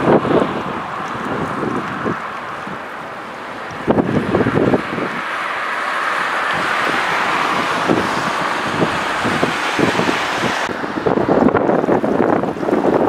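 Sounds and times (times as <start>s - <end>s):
rushing floodwater: 0.0s - 13.0s
wind buffeting microphone: 0.0s - 13.0s.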